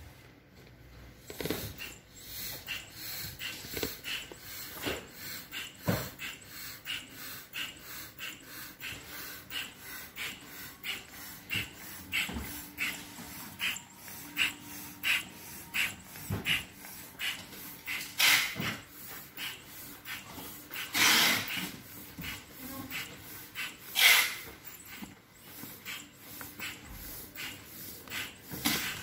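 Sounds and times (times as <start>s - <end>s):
hand air pump puffing: 1.1s - 29.0s.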